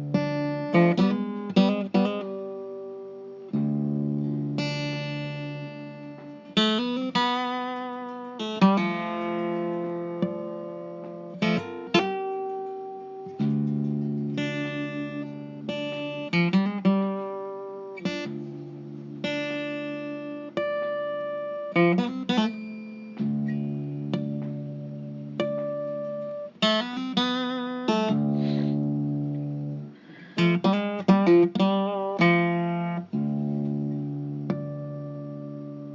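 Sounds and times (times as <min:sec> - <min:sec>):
guitar chords ringing: 0:00.0 - 0:35.9.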